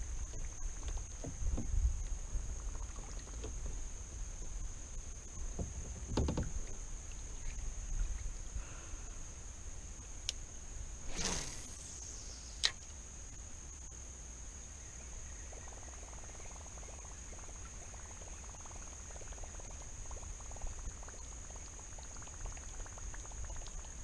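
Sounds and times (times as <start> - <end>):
faint ticks and gurgles: 0.0 - 14.0, 14.7 - 24.0
insects buzzing: 0.0 - 24.0.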